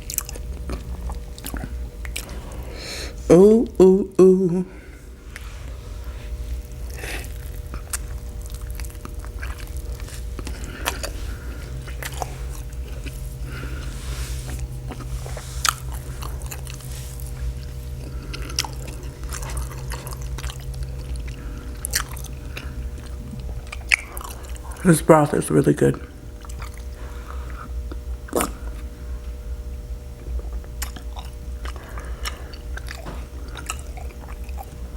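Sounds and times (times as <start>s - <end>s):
close chewing and biting: 0.0s - 2.8s, 5.3s - 24.8s, 26.3s - 28.9s, 30.2s - 34.9s.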